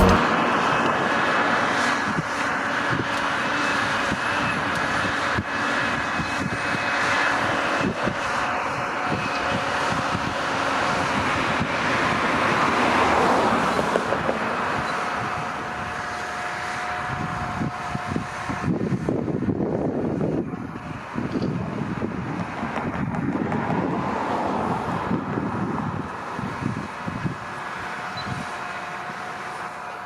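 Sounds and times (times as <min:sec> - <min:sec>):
tracked tractor running under load: 0:00.0 - 0:23.8, 0:24.7 - 0:30.0.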